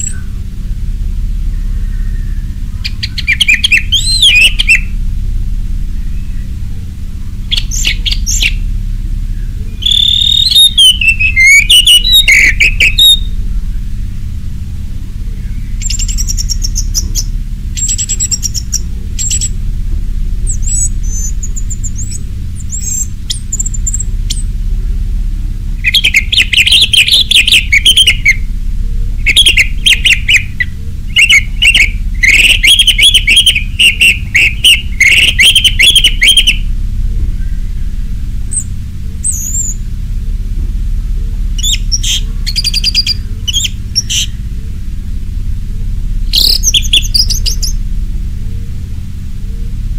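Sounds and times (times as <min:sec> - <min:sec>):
thrush singing: 0:00.0 - 0:24.9, 0:25.7 - 0:39.9, 0:41.5 - 0:45.5
low hum: 0:00.0 - 0:49.9.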